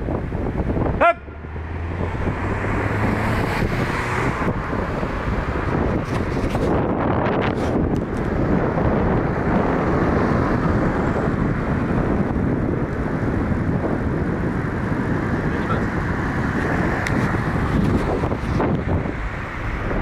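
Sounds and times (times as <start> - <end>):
vehicle running and road noise: 0.0 - 20.0
wind rushing over microphone: 0.0 - 20.0.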